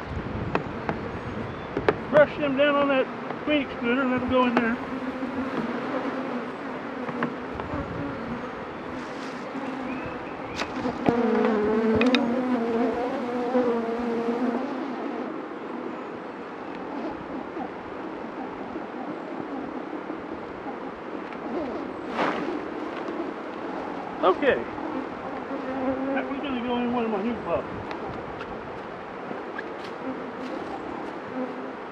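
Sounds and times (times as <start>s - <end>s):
bees buzzing: 0.0s - 31.9s.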